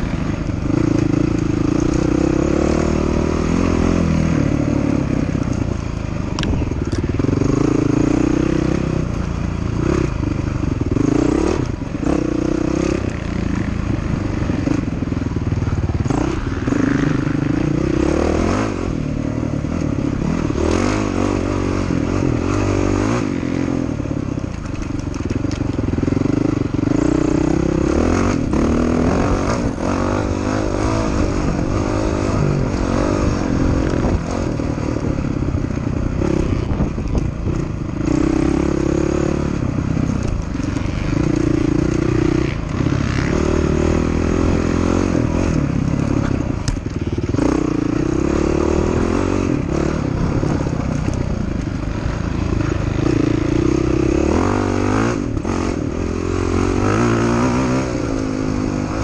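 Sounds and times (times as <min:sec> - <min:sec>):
dirt bike engine revving: 0:00.0 - 0:05.8, 0:06.5 - 0:59.0.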